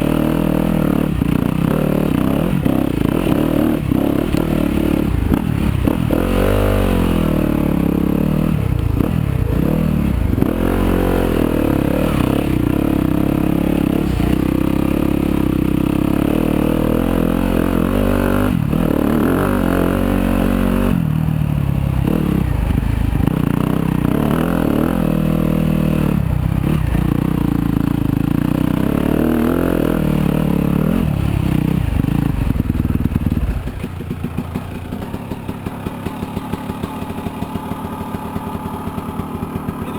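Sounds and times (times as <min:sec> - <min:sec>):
dirt bike engine revving: 0:00.0 - 0:33.8.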